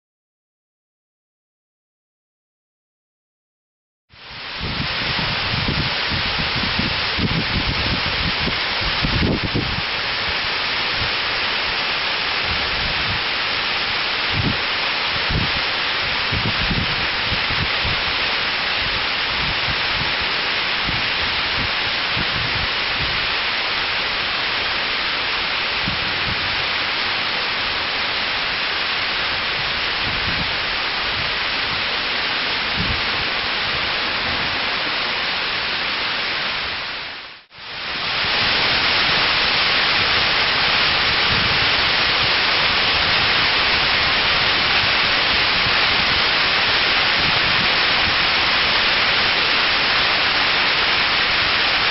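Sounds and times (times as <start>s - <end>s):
waterfall rushing: 4.2s - 51.9s.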